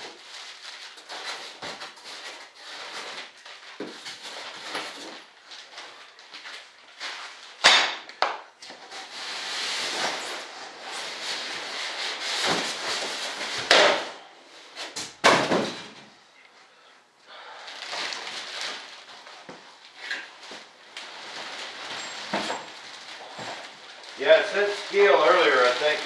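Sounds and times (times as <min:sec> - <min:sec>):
packaging scraping and rustling: 0:00.0 - 0:07.6, 0:08.7 - 0:13.8, 0:17.6 - 0:26.0.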